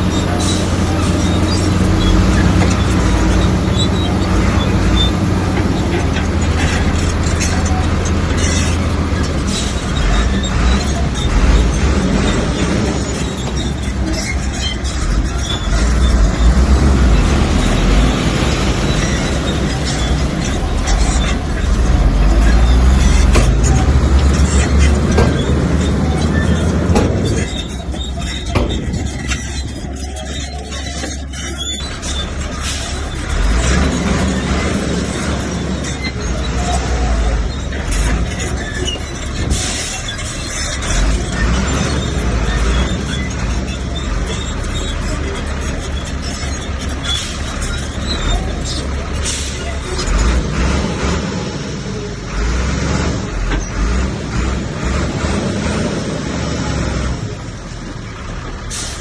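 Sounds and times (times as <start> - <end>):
metal clanks: 0.0 - 51.7
bulldozer diesel engine running: 0.0 - 59.0
high squeaks: 0.0 - 59.0.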